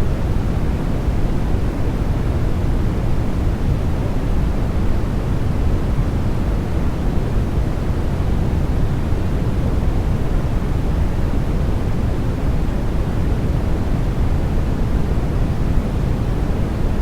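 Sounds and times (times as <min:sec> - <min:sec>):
white noise: 0:00.0 - 0:17.0.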